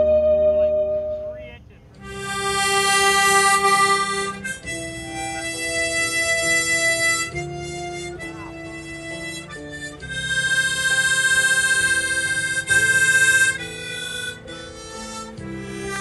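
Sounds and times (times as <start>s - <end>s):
harmonica playing slow melody: 0.0s - 16.0s.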